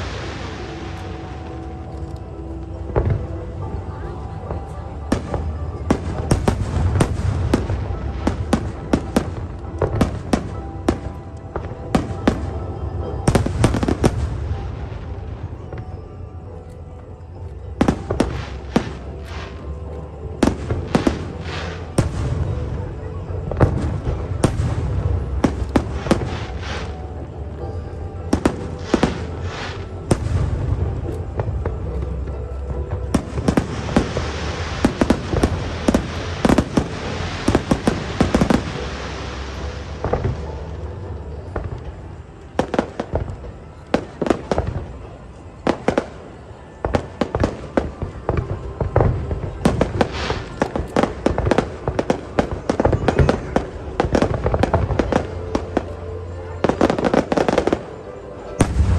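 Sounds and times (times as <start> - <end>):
fireworks bangs and booms: 0.0 - 16.4, 17.3 - 58.9
fireworks crackling: 0.0 - 58.9.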